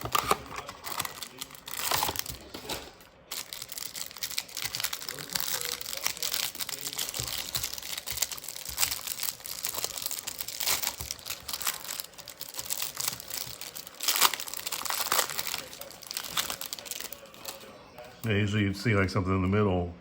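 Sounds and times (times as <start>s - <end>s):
card packaging crinkling: 0.0s - 18.4s.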